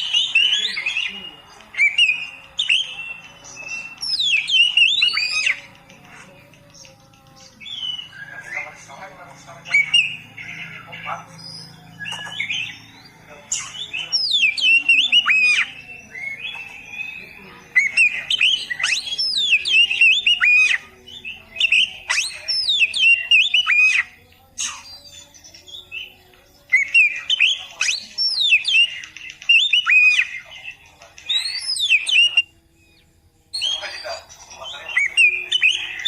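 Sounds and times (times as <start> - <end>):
songbird whistling and warbling: 0.0 - 36.0.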